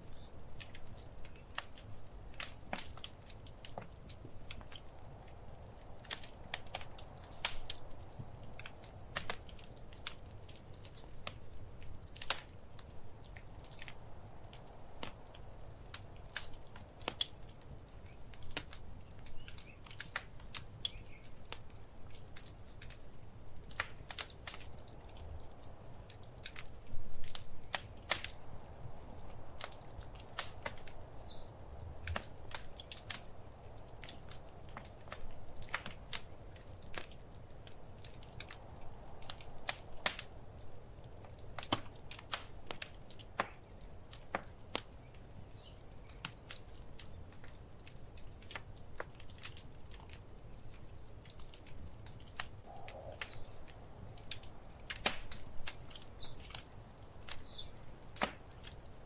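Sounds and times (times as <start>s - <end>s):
low rumble of burning: 0.0s - 59.0s
wood fire crackling: 0.0s - 59.0s.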